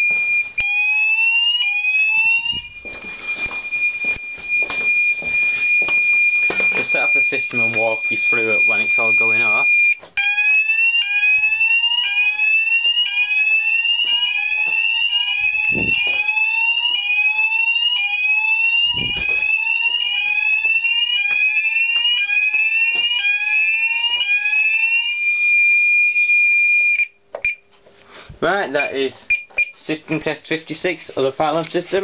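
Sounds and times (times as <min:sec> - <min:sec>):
steady alarm tone: 0:00.0 - 0:27.6
fire alarm sweeping tones: 0:00.0 - 0:27.7, 0:28.8 - 0:29.8.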